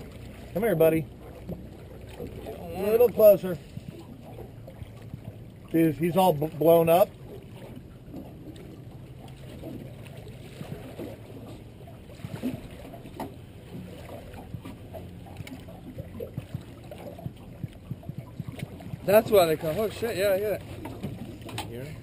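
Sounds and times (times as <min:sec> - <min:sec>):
low steady hum: 0:00.0 - 0:22.0
water sloshing against boat hull: 0:00.0 - 0:22.0.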